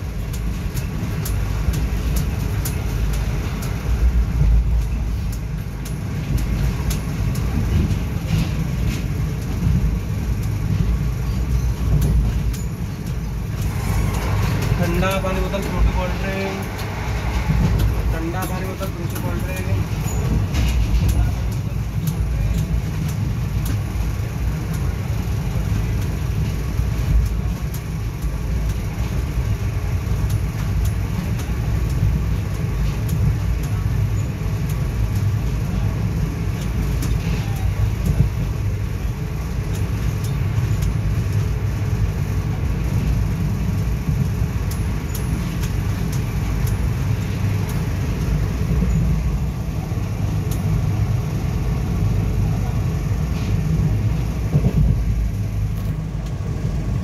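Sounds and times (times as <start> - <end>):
train rumbling at speed: 0.0 - 57.0.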